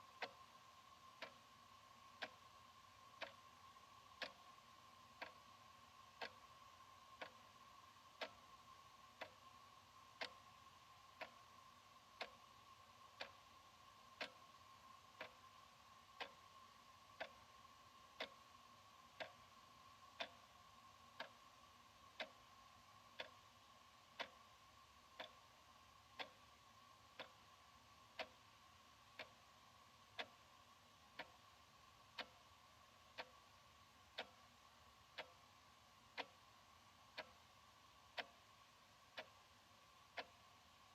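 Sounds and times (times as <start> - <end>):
faint steady hum: 0.0 - 40.9
wall clock ticking: 0.0 - 40.9.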